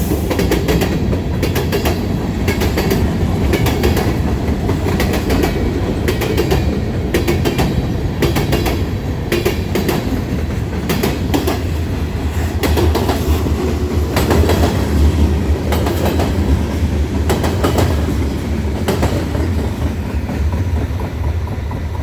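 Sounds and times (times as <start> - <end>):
train rumbling past: 0.0 - 22.0
train wheels clicking over rail joints: 0.0 - 22.0.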